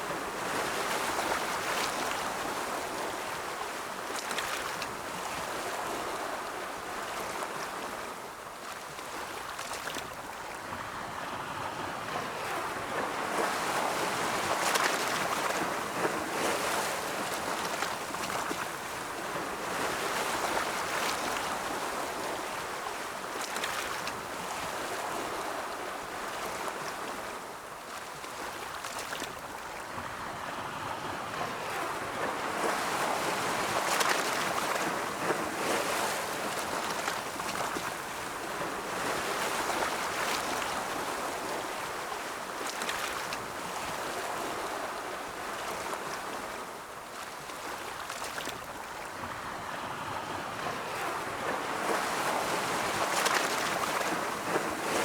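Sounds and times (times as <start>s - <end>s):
ocean waves breaking: 10.9s - 55.0s.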